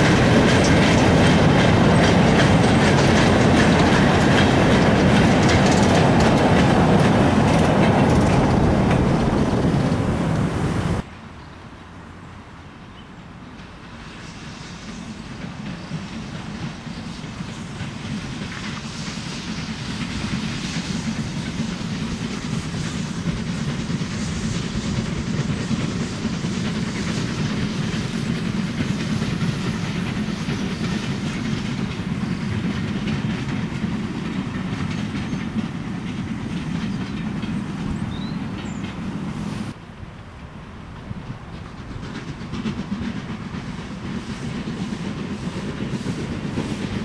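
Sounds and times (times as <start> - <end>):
train wheels clickety-clack: 0.0 - 11.1, 12.9 - 47.0.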